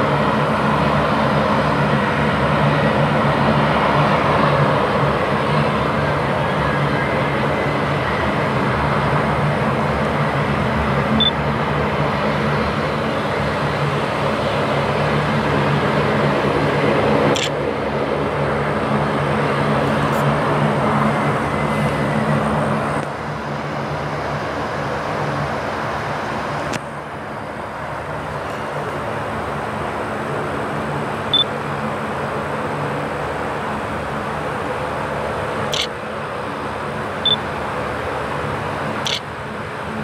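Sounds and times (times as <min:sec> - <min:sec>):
distant engine drone: 0:00.0 - 0:40.0.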